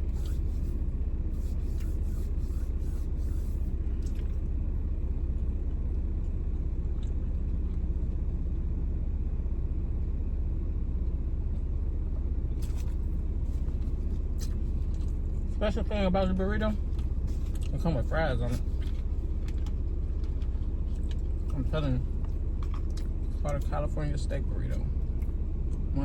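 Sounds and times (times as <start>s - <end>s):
car cabin rumble: 0.0s - 8.3s, 12.4s - 26.0s.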